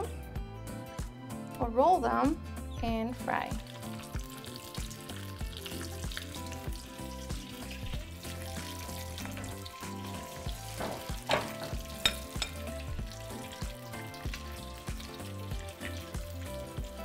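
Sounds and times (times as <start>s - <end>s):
soft background music: 0.0s - 17.0s
food sizzling in hot oil: 3.0s - 17.0s.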